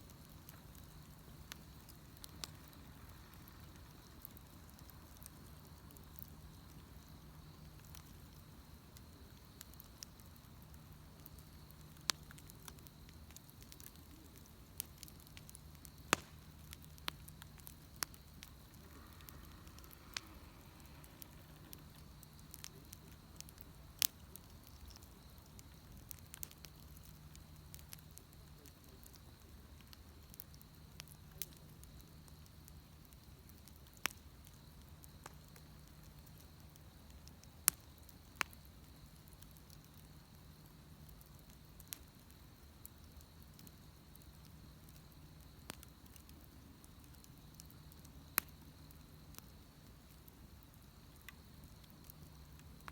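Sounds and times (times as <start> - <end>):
bonfire crackling and popping: 0.0 - 52.9.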